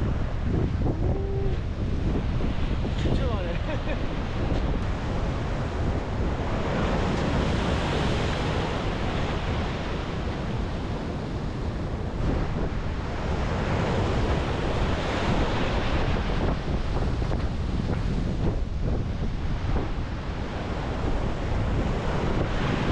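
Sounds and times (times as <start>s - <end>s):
sea surf breaking on beach: 0.0s - 22.9s
wind buffeting microphone: 0.0s - 22.9s.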